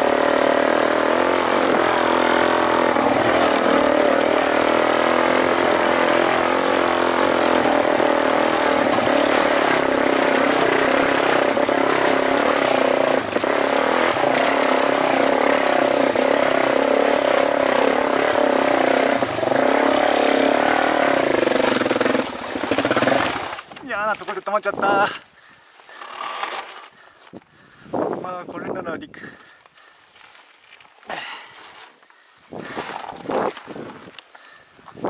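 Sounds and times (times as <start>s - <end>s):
motorcycle engine climbing: 0.0s - 35.0s.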